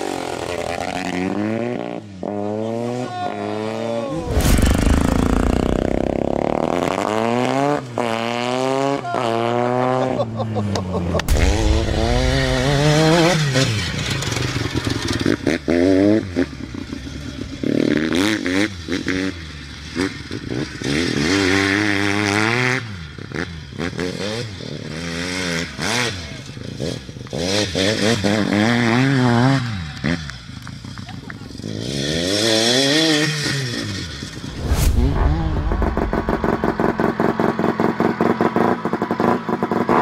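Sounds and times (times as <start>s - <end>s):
dirt bike engine revving: 0.0s - 10.1s, 11.2s - 30.2s, 31.6s - 40.0s.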